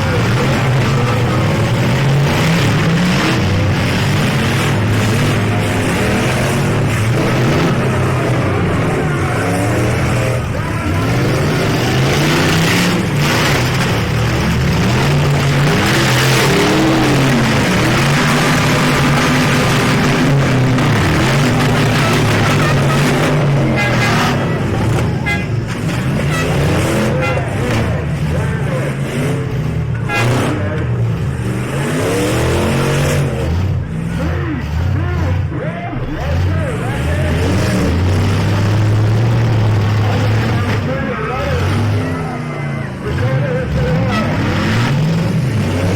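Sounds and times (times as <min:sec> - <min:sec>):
truck engines revving: 0:00.0 - 0:45.9.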